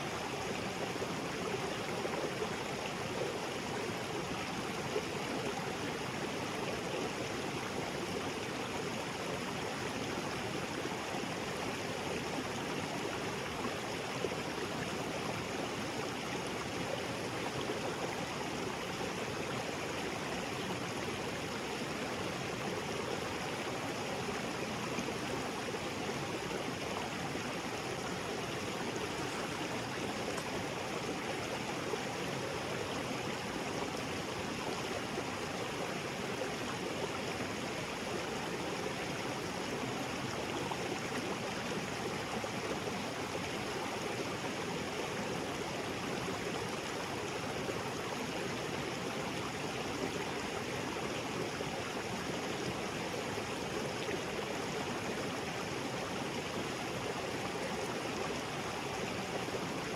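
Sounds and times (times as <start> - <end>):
water flowing over rocks: 0.0 - 59.9.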